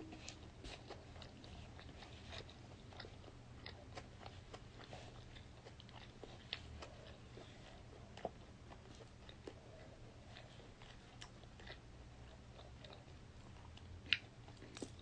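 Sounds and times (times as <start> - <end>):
faint chewing and crunching: 0.0 - 15.0
low room hum: 0.0 - 15.0.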